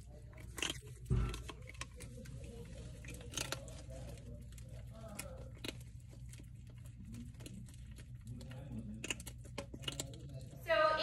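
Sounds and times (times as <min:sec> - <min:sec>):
prairie dog gnawing crunching clicks: 0:00.0 - 0:10.6.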